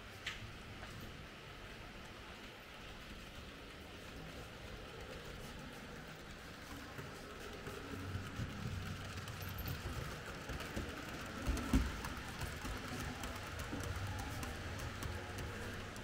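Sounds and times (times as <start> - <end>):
model train rolling rattle: 1.6 - 16.0.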